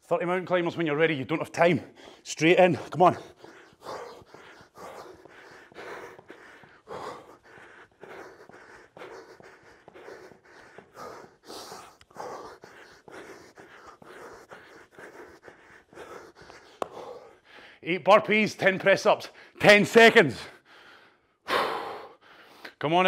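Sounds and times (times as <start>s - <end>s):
man breathing hard: 1.7s - 17.9s, 19.2s - 19.6s, 20.2s - 22.8s.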